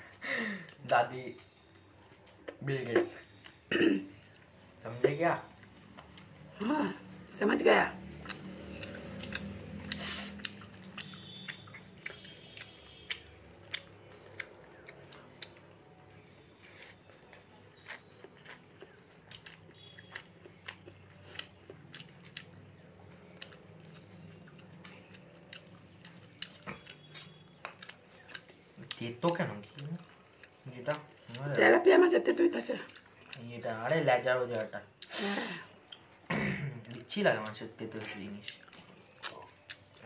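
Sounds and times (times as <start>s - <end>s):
person chewing food: 1.4s - 7.3s, 8.0s - 31.7s, 32.7s - 33.5s, 34.5s - 36.2s, 36.8s - 40.0s.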